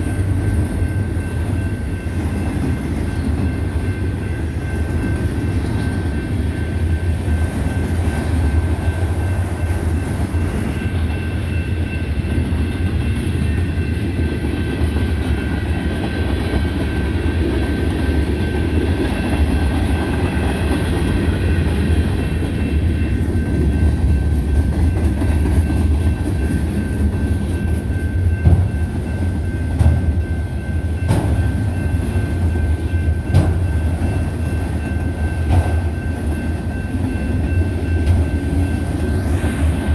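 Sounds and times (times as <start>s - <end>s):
faint high wheel ringing: 0.0s - 39.9s
freight train rumbling past: 0.0s - 39.9s.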